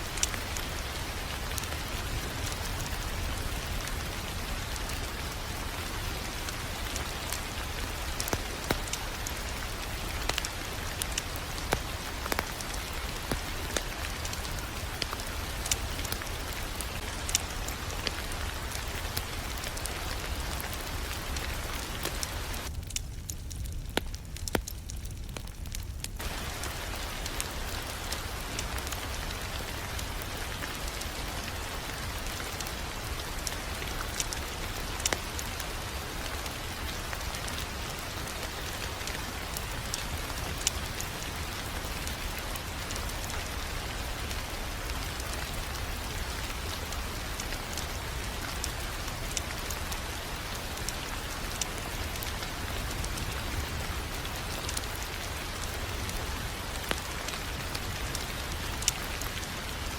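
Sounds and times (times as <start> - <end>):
sharp pops and snaps of fire: 0.0 - 59.8
fire crackling: 0.0 - 59.9
steady rain-like hiss: 0.0 - 59.9.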